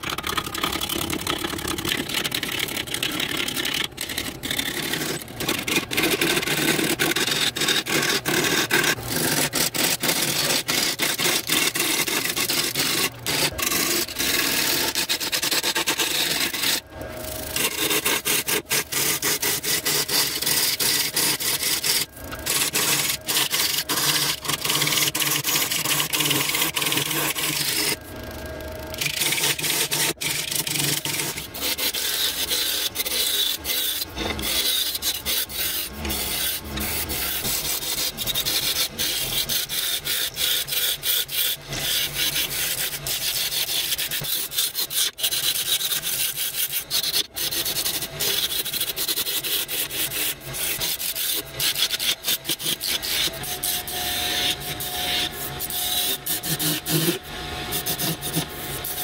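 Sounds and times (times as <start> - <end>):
lathe tool cutting wood: 5.5 - 28.0, 28.9 - 45.4, 46.2 - 59.0.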